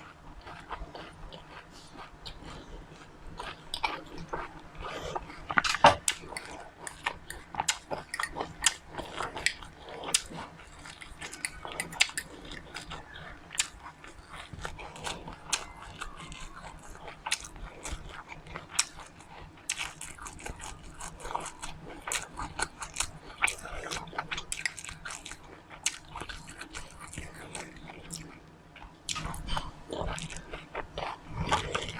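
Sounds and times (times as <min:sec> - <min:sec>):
person chewing crunchy seeds: 0:00.0 - 0:31.9.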